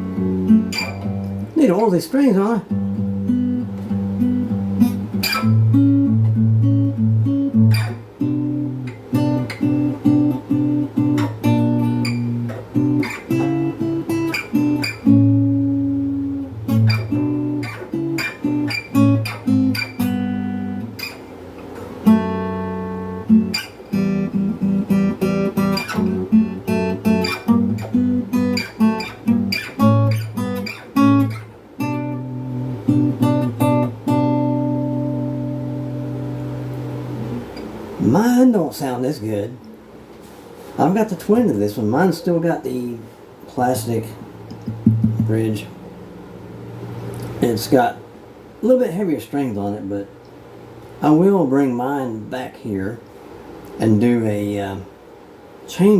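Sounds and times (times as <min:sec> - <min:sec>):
acoustic guitar picking: 0:00.0 - 0:54.1.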